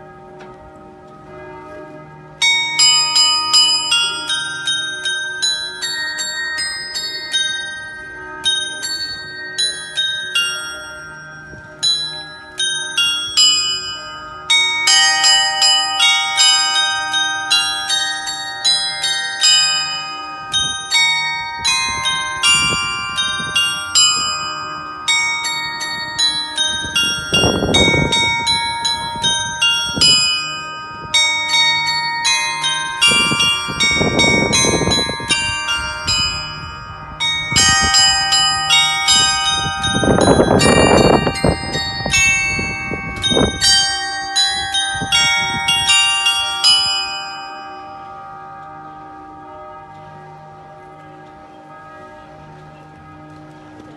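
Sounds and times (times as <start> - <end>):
clock bells chiming a tune: 0.0 - 1.4, 2.2 - 53.9.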